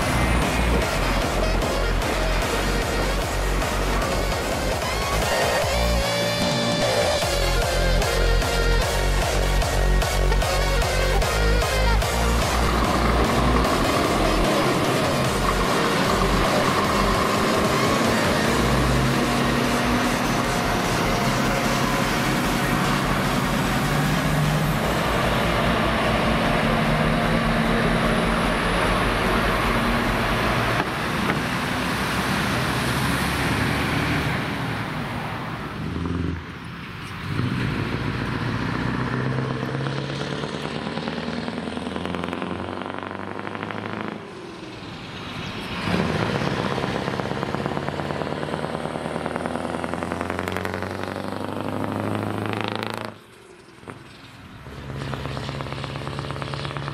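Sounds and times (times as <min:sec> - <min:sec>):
diesel trucks driving past: 0:00.0 - 0:56.9.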